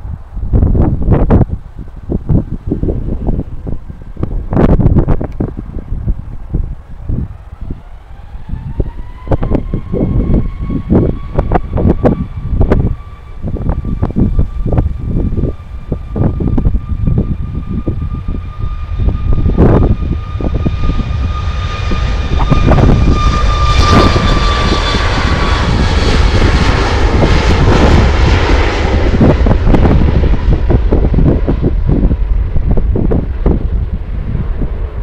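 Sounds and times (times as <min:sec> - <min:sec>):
jet airliner engines: 0:00.0 - 0:35.0
wind buffeting microphone: 0:00.0 - 0:35.0.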